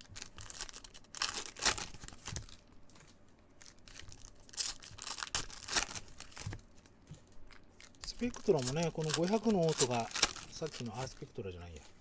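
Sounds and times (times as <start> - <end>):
foil wrapper tearing and crinkling: 0.0 - 2.7, 3.6 - 6.6, 7.5 - 11.8.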